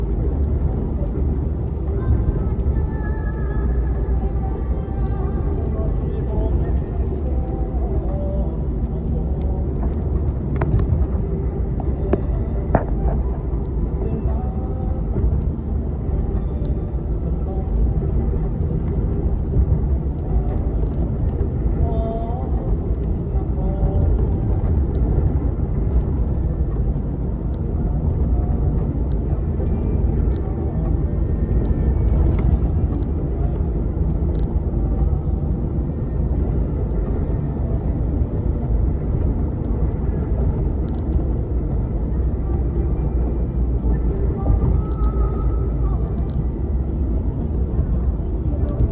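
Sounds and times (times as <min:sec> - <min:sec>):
car engine and tyres rumbling: 0:00.0 - 0:48.9.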